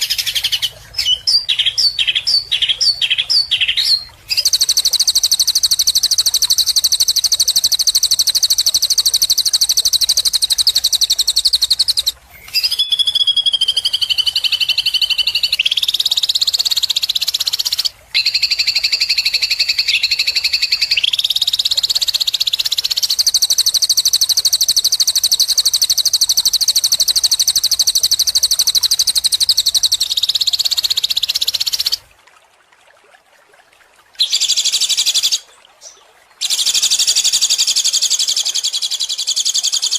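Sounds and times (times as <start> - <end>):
songbird high-pitched trills: 0.0 - 32.0.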